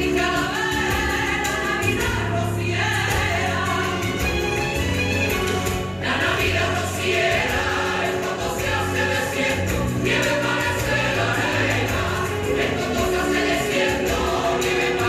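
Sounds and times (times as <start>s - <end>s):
chorus of voices singing: 0.0s - 15.0s.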